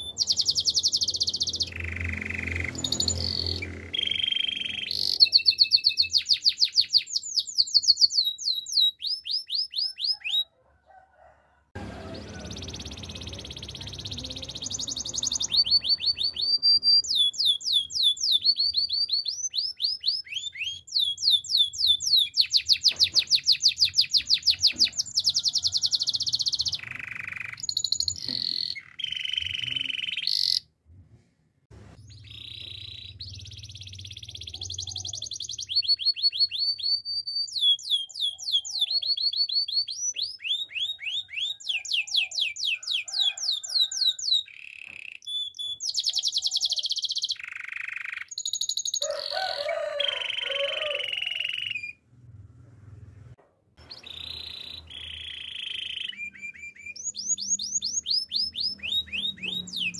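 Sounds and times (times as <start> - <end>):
canary singing trills: 0.0 - 10.6, 11.8 - 30.7, 32.0 - 52.0, 53.8 - 59.9.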